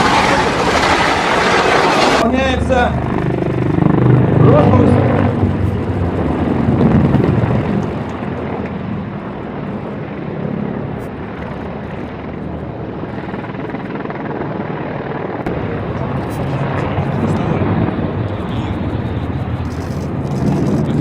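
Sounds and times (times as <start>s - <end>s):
helicopter engine and rotor: 0.0s - 21.0s.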